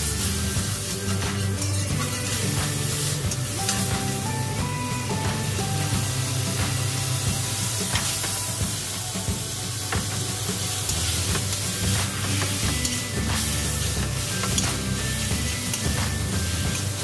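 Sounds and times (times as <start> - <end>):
background music: 0.0 - 17.0
beef sizzling in a wok: 0.0 - 17.0.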